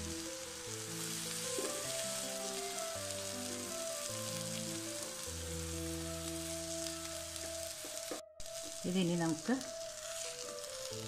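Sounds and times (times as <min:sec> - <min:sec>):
background music with held notes: 0:00.0 - 0:11.0
food sizzling in oil: 0:00.0 - 0:11.0.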